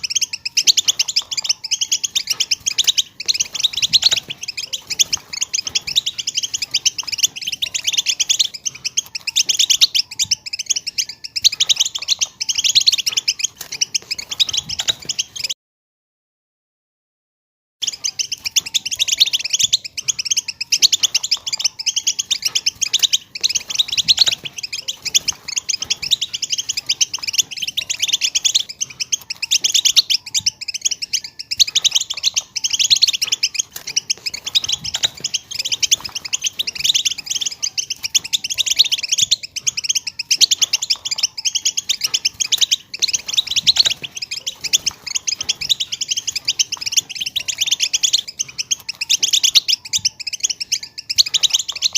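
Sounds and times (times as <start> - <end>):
goldfinches twittering: 0.0 - 15.5, 17.8 - 51.9.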